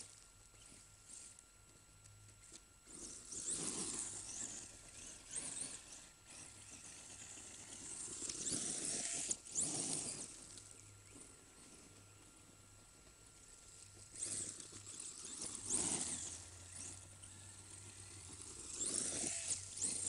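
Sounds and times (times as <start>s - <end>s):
electric motor whine: 0.0s - 20.0s
tyres on dirt and gravel: 2.4s - 20.0s.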